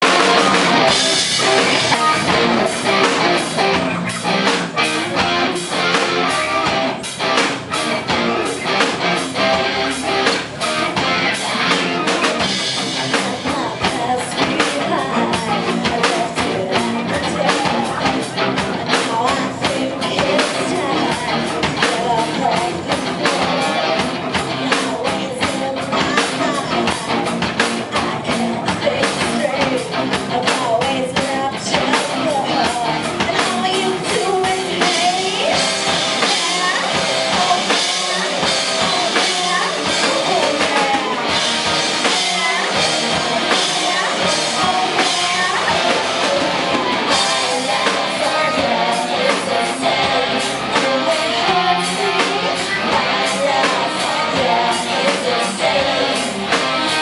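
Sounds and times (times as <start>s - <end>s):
drum kit beat: 0.0s - 57.0s
electric guitar: 0.0s - 57.0s
live rock band playing: 0.0s - 57.0s.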